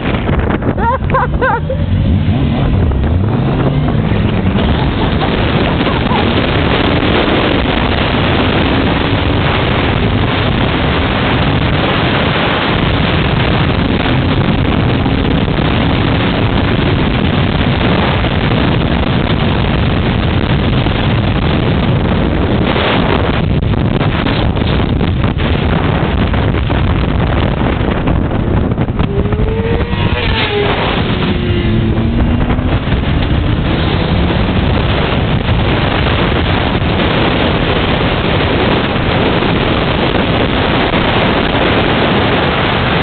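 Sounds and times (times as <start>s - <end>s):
motorcycle engine running: 0.0s - 43.0s
wind noise on microphone: 0.0s - 43.0s.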